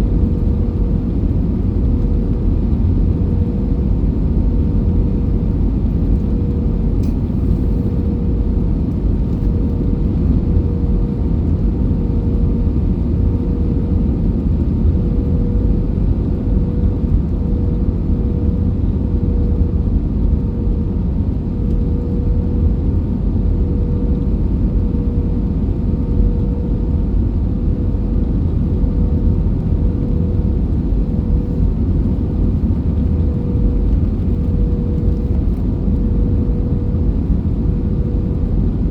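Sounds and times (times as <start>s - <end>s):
airliner rumble and hum: 0.0s - 38.9s.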